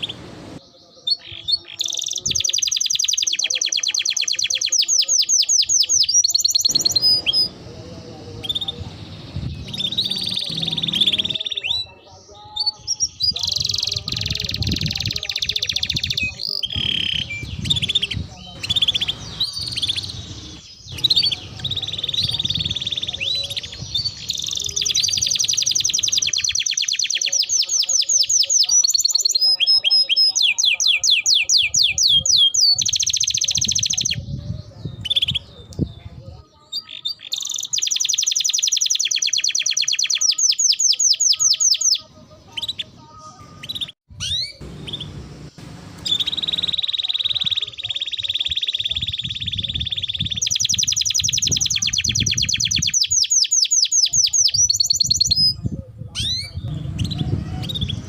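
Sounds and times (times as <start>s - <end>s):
canary singing and trilling: 0.0s - 58.0s.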